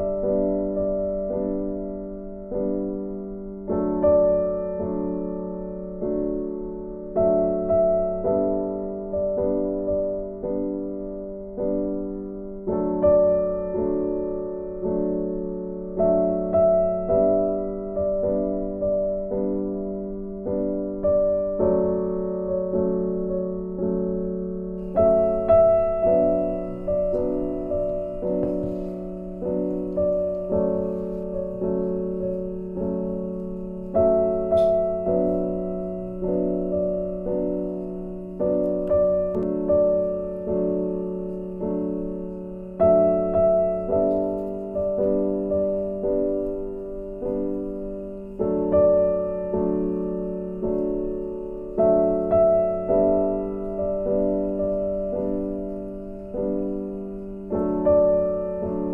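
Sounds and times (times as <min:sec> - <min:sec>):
slow gentle piano melody: 0:00.0 - 0:58.9.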